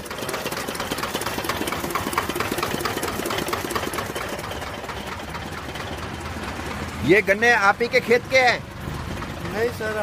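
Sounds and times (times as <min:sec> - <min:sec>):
diesel engine clattering: 0:00.0 - 0:10.0.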